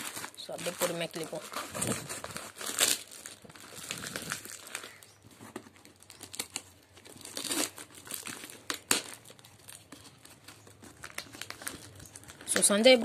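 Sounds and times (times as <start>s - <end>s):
plastic crinkling and tearing: 0.0s - 13.0s.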